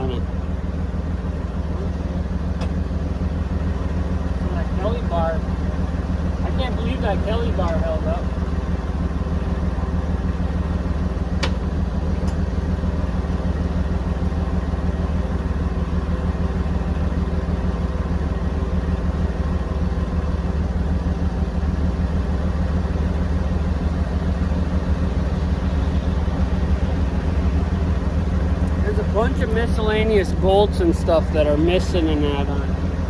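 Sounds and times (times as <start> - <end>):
drill rig engine idling: 0.0 - 33.0.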